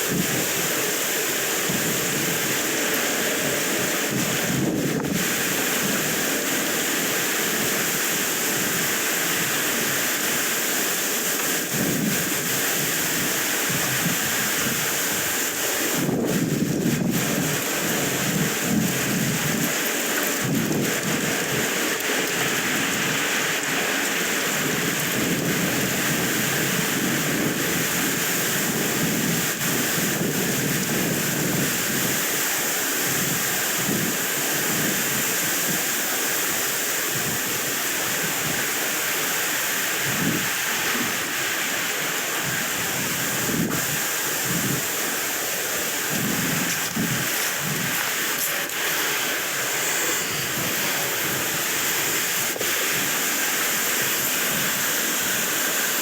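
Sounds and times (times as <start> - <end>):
wind blowing across microphone: 0.0 - 56.0.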